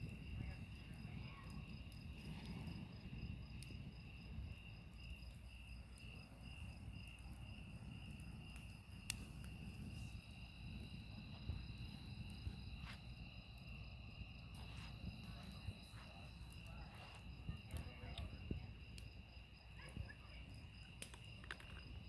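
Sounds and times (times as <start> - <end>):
campfire crackling pops: 0.0 - 22.0
crickets chirping: 0.0 - 22.0.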